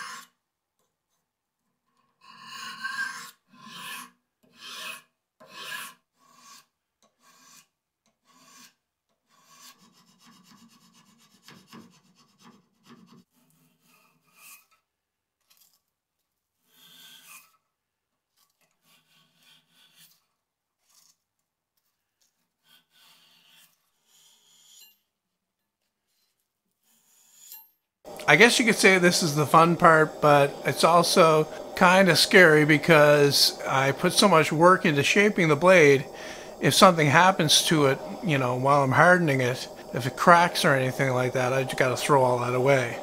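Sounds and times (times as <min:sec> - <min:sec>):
file scraping steel: 0:00.0 - 0:00.4, 0:01.8 - 0:25.2, 0:25.8 - 0:43.0.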